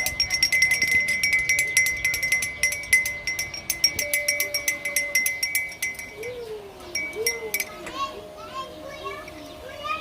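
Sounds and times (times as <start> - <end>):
metal cattle bell ringing: 0.0 - 8.2.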